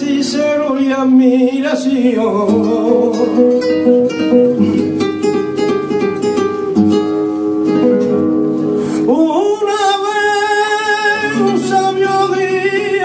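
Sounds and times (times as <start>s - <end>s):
flamenco guitar playing: 0.0s - 13.0s
man singing flamenco: 0.0s - 13.0s.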